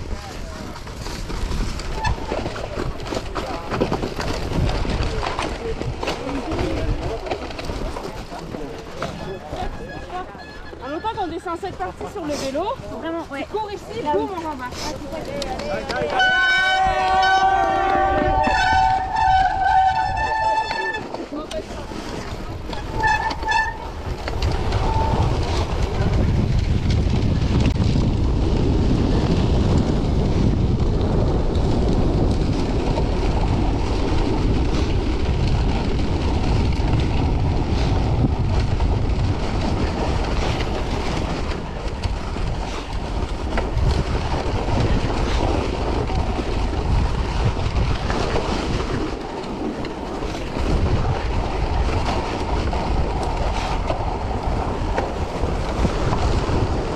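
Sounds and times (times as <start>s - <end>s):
wind rushing over microphone: 0.0s - 10.2s, 11.0s - 56.9s
bike tyres on packed snow: 0.0s - 56.9s.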